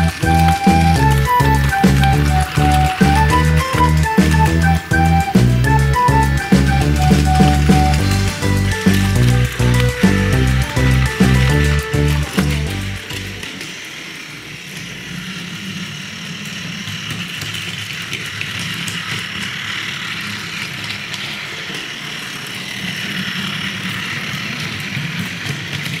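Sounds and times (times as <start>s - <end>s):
toy train motor whirring: 0.0s - 26.0s.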